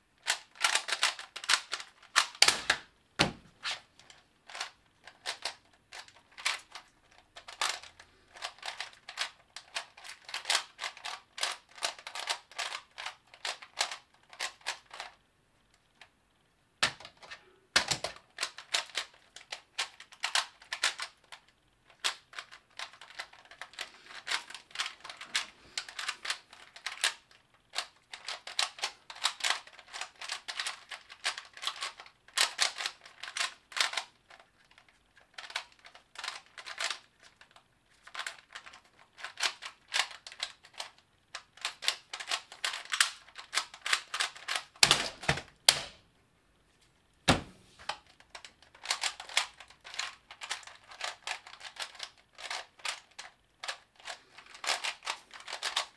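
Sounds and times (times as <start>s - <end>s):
plastic puzzle cube clacking: 0.2s - 2.9s, 3.6s - 15.2s, 16.8s - 46.0s, 47.8s - 55.9s.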